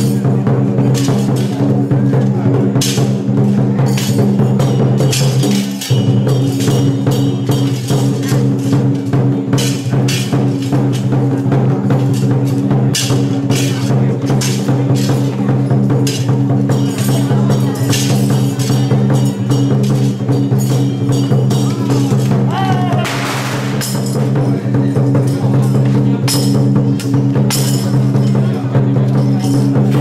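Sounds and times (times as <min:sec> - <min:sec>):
drums cymbals and gongs: 0:00.0 - 0:30.0.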